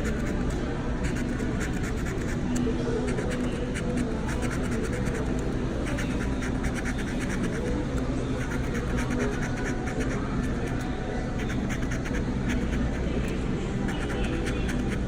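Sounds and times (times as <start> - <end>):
lottery ticket being scratched: 0.0 - 15.0
steady low hum: 0.0 - 15.0.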